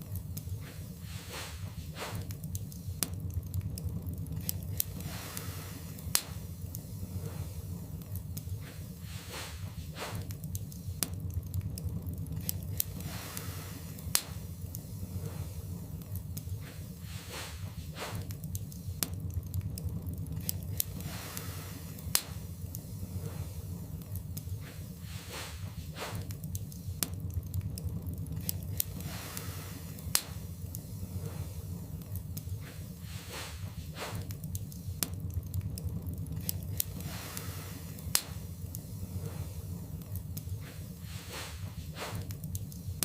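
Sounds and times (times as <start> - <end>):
fireplace fire crackling and popping: 0.0 - 43.0
low fire rumble: 0.0 - 43.0.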